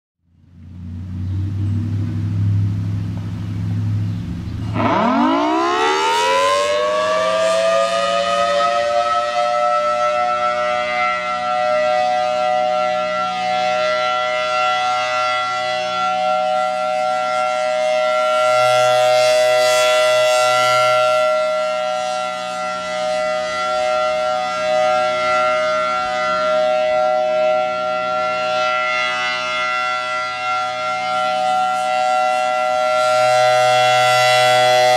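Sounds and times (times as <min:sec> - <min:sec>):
warning siren wailing: 0:00.8 - 0:34.9.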